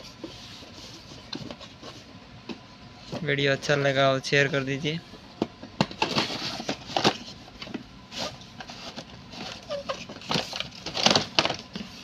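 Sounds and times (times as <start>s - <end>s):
cardboard and plastic rustling: 0.0s - 12.0s.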